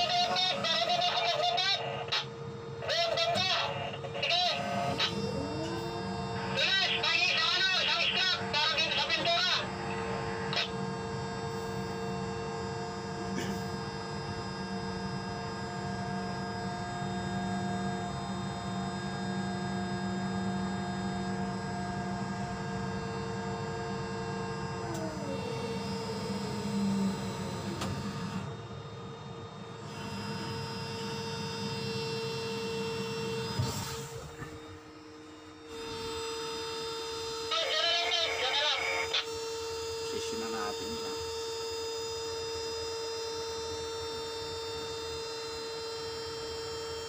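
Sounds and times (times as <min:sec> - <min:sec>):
hydraulic machinery humming: 0:00.0 - 0:23.6, 0:24.7 - 0:41.3.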